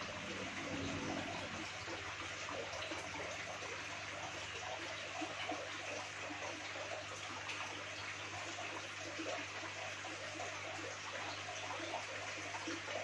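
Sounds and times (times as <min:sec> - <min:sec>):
aquarium water bubbling: 0:00.0 - 0:13.0.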